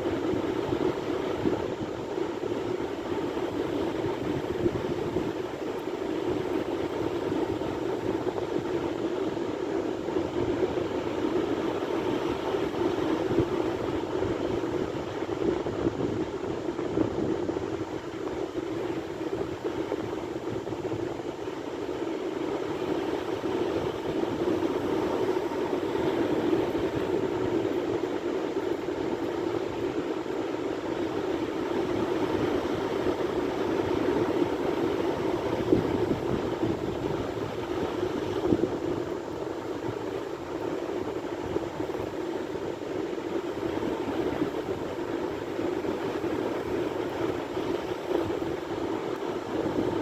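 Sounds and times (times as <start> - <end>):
sea waves breaking on shore: 0.0 - 50.0.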